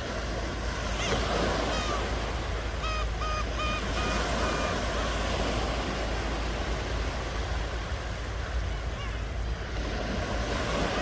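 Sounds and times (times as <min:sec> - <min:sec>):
ocean waves on shore: 0:00.0 - 0:11.0.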